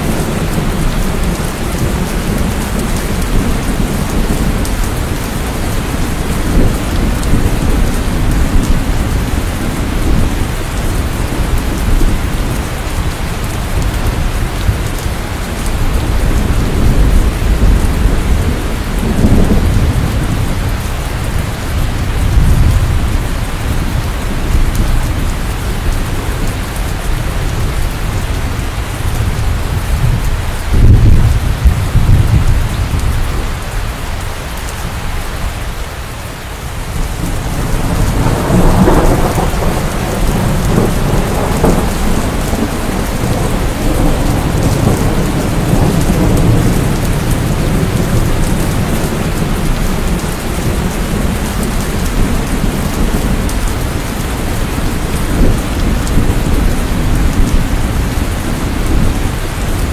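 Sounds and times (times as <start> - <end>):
rolling thunder: 0.0 - 33.8, 36.8 - 59.9
heavy rain: 0.0 - 59.9.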